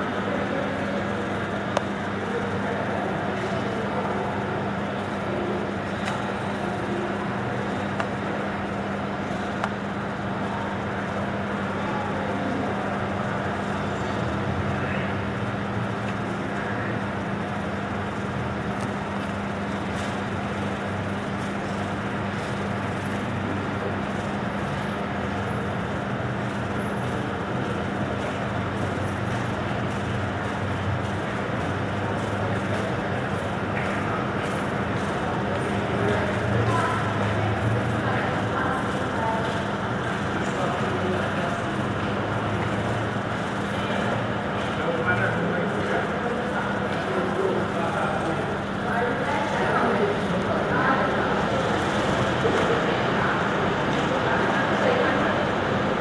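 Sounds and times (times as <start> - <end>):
diesel buses idling and moving: 0.0 - 56.0.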